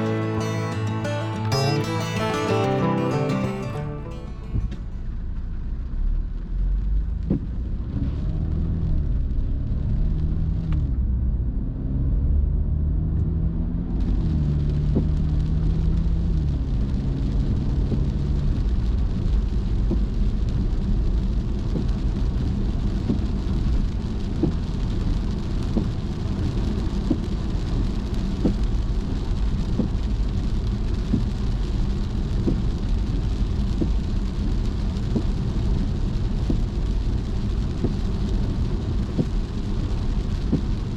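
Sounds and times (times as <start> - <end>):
road and tyre noise: 4.6 - 40.9
rain on a car: 5.1 - 11.7, 13.6 - 40.9.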